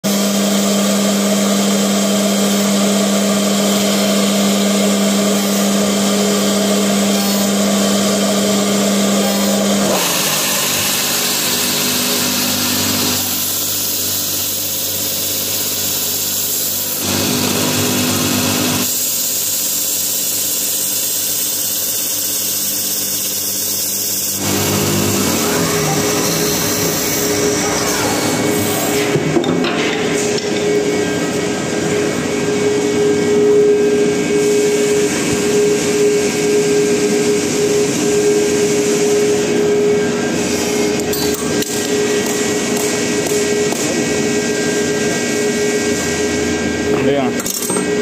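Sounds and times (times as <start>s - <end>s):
wood lathe machine whine: 0.1s - 29.4s, 30.1s - 48.0s.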